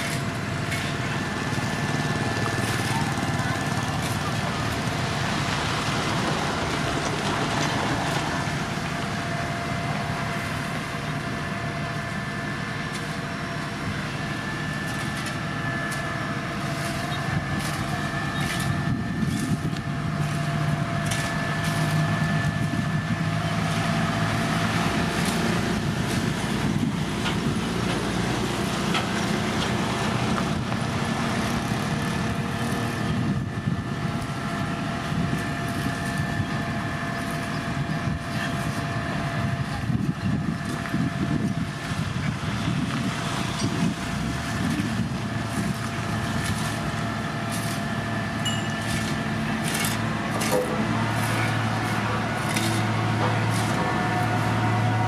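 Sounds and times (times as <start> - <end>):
diesel machinery engine hum: 0.0 - 55.0
thin steady whine: 0.0 - 55.0.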